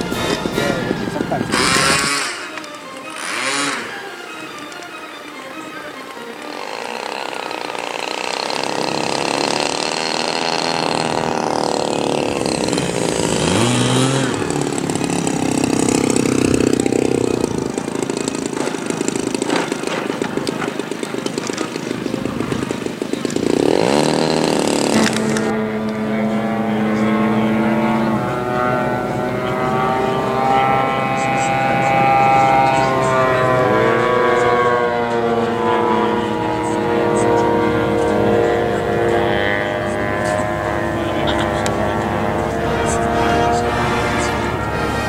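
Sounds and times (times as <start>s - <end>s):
model airplane engine running: 0.0s - 45.0s.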